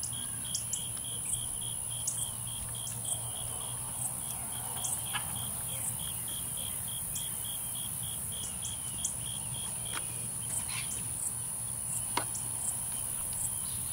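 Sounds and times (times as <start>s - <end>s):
crickets chirping: 0.0s - 13.9s
insects buzzing: 0.0s - 13.9s.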